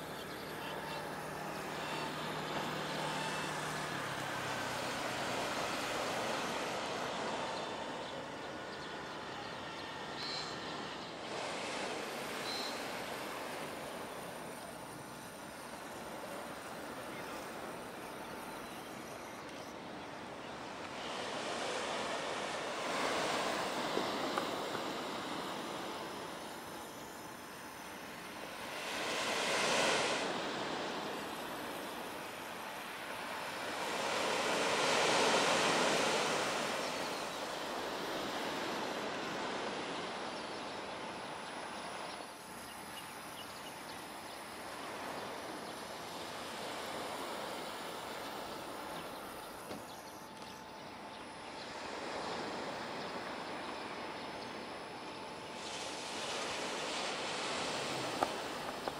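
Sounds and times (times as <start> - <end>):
surf breaking on a beach: 0.0 - 49.9, 50.8 - 58.9.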